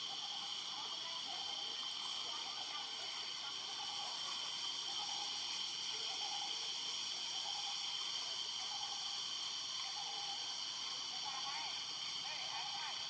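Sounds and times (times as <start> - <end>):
faint chirps: 0.0 - 13.0
high-pitched insect drone: 0.0 - 13.0.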